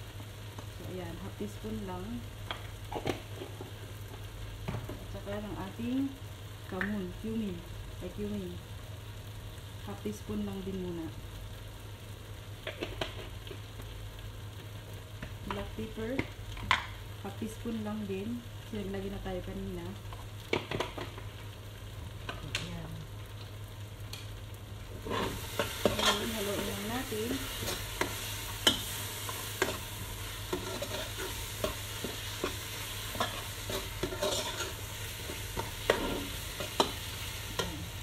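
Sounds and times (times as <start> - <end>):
paste sizzling in pot: 0.0 - 8.2, 8.8 - 38.0.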